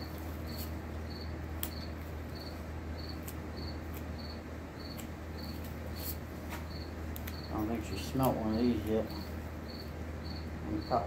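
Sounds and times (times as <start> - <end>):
cricket chirping: 0.0 - 11.0
low steady hum: 0.0 - 11.0.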